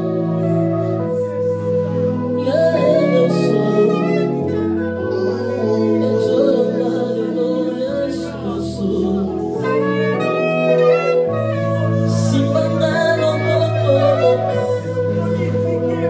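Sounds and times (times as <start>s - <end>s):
worship music: 0.0s - 16.0s.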